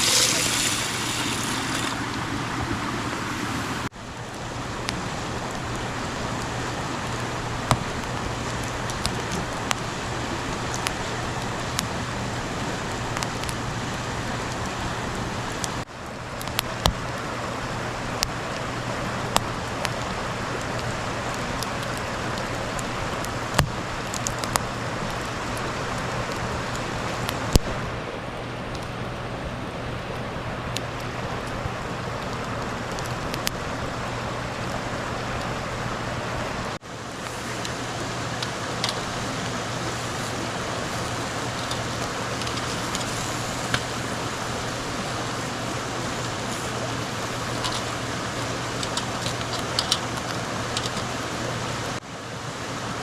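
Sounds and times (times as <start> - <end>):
campfire crackling and popping: 0.0 - 2.2, 3.9 - 17.3, 18.0 - 27.8, 30.0 - 35.6, 36.8 - 52.0.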